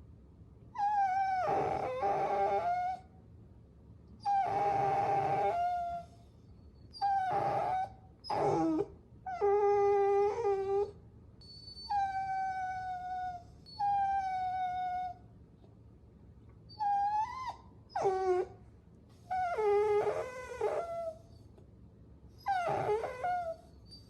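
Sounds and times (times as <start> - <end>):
puppy whining: 0.8 - 3.1, 4.2 - 15.3, 16.7 - 18.6, 19.2 - 21.6, 22.4 - 24.0.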